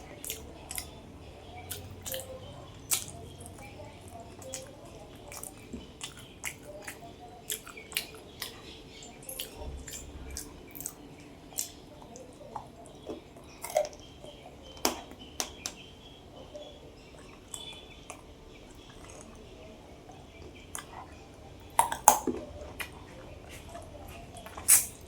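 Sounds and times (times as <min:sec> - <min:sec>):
person chewing with wet smacks: 0:00.0 - 0:01.0, 0:01.6 - 0:14.1, 0:17.1 - 0:19.5, 0:20.3 - 0:25.0.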